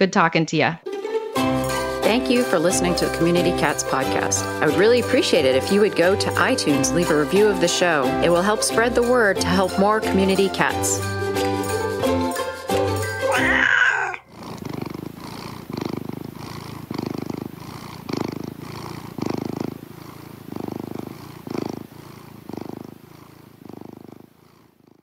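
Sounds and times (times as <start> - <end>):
cat purring: 1.8 - 11.6, 13.3 - 25.0.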